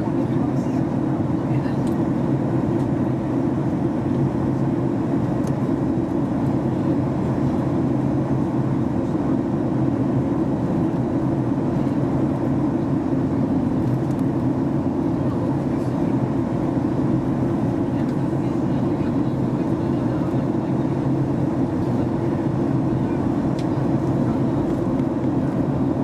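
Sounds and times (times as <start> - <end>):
airplane cabin roar: 0.0 - 26.0.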